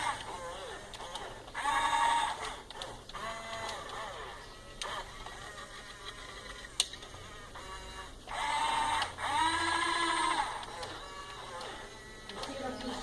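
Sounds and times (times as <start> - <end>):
toy excavator motors whining: 0.0 - 13.0.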